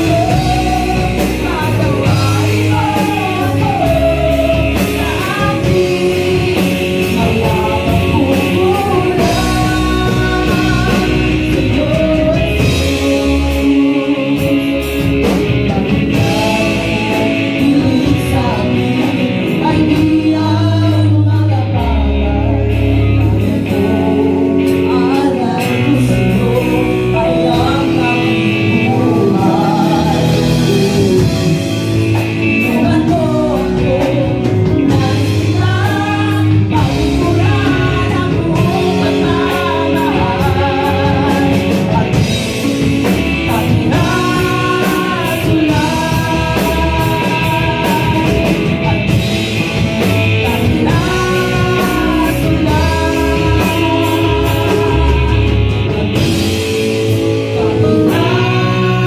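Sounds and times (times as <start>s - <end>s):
bass guitar: 0.0s - 59.0s
drums: 0.0s - 59.0s
electric guitars: 0.0s - 59.0s
man and woman singing together: 0.0s - 59.0s.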